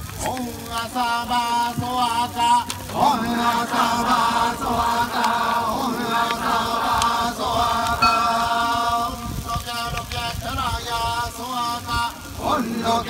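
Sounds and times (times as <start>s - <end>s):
group chanting: 0.8s - 9.8s, 10.4s - 13.0s.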